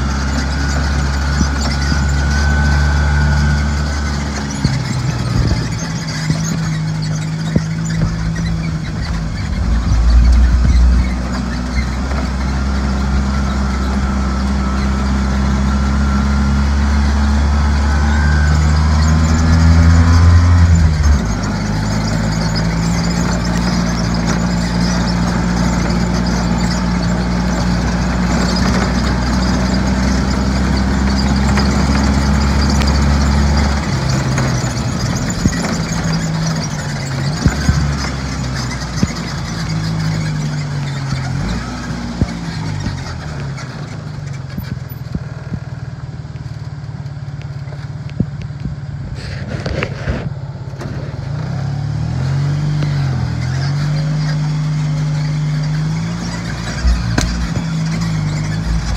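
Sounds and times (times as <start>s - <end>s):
engine droning: 0.0s - 58.9s.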